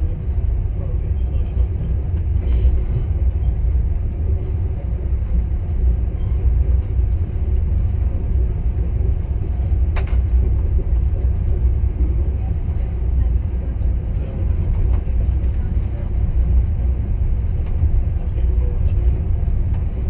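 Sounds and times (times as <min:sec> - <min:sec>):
moving train rumble: 0:00.0 - 0:20.0.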